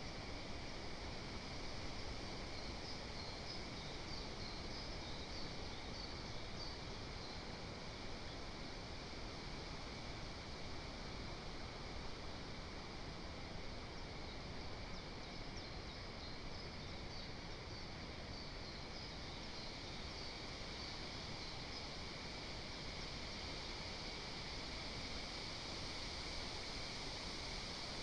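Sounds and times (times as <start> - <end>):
forest ambience hiss: 0.0 - 28.0.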